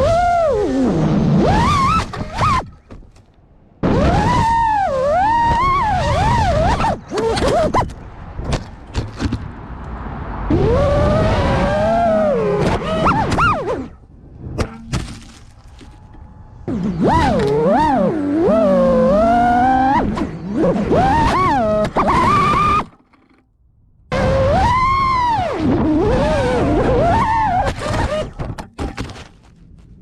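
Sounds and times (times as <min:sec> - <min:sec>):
drone propellers whining: 0:00.0 - 0:03.0, 0:03.7 - 0:08.8, 0:10.2 - 0:23.4, 0:24.1 - 0:28.7.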